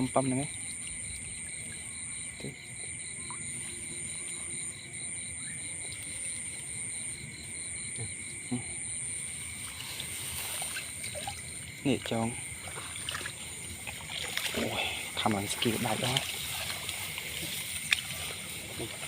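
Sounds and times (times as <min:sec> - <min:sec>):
insects chirring: 0:00.0 - 0:19.0
pulsing insect chirr: 0:00.0 - 0:19.0.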